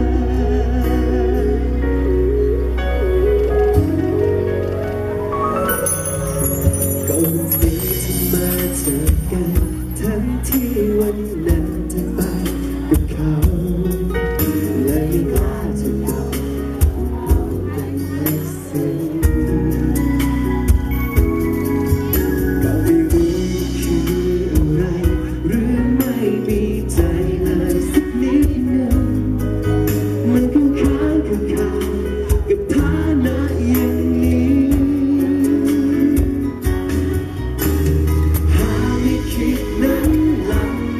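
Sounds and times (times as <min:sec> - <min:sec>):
man singing into a microphone: 0:00.0 - 0:02.4, 0:06.4 - 0:20.9, 0:21.6 - 0:37.4, 0:38.3 - 0:40.9
pop backing track: 0:00.0 - 0:40.9.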